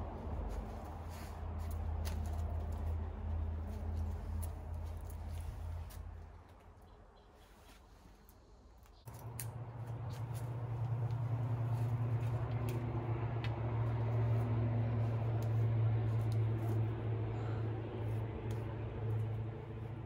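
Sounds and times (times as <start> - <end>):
low engine hum: 0.0 - 6.9, 9.0 - 20.0.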